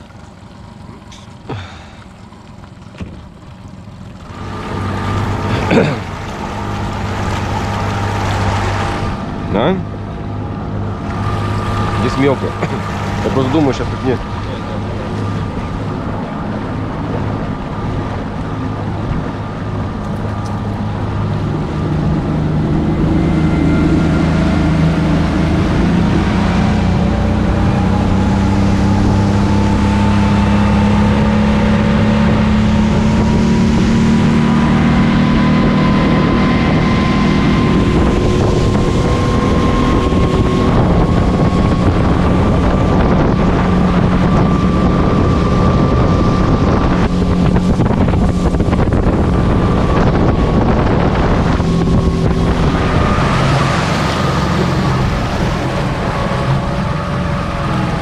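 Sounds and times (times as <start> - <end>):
motorboat engine running: 0.0 - 58.0
wind buffeting microphone: 4.3 - 58.0.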